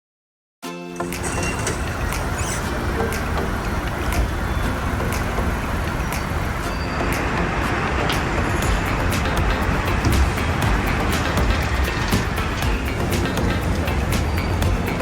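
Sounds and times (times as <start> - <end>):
low vehicle noise: 1.0 - 15.0
faint clicks: 1.1 - 15.0.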